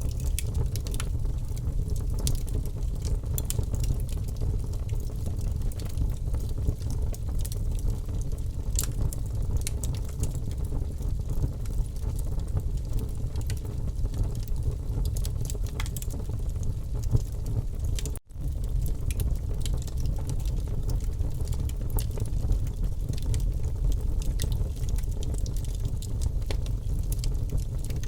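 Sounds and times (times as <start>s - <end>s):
low rumble of flames: 0.0s - 28.0s
wood fire pops and snaps: 0.0s - 28.0s.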